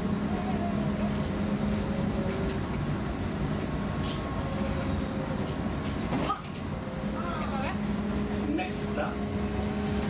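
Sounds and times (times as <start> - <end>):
tram wheels rumbling on rail: 0.0 - 10.0.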